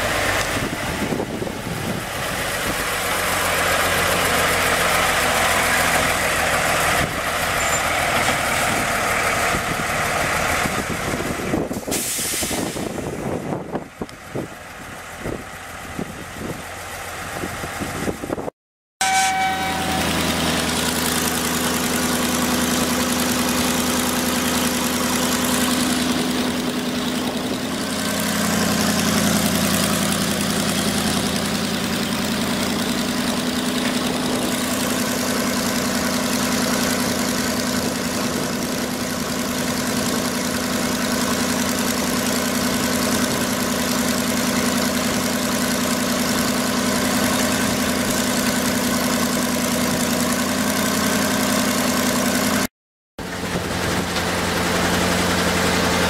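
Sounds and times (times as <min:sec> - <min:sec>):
crane engine idling: 0:00.0 - 0:11.7, 0:19.7 - 0:56.0.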